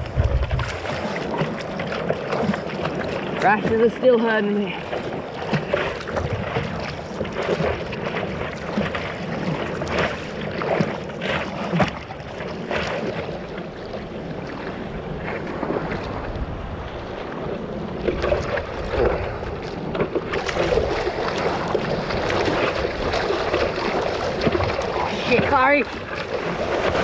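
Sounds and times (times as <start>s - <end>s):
water splashing around a surfboard: 0.0s - 27.0s.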